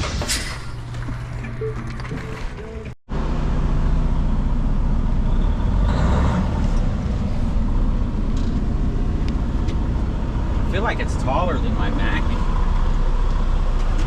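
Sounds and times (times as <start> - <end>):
truck engine running: 0.0 - 5.6, 6.7 - 13.9.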